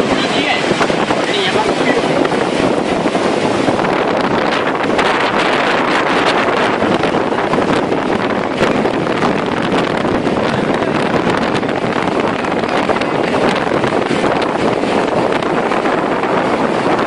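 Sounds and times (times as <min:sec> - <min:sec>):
heavy driving rain: 0:00.0 - 0:17.0
storm wind: 0:00.0 - 0:17.0
wind gusts buffeting microphone: 0:00.0 - 0:17.0.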